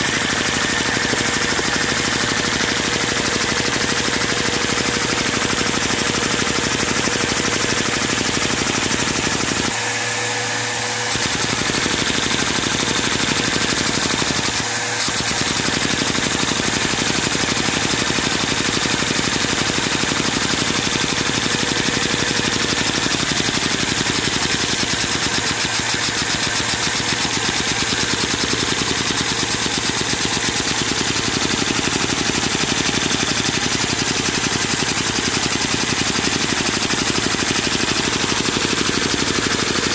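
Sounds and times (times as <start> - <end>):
lego engine clattering: 0.0 - 9.8, 11.0 - 39.9.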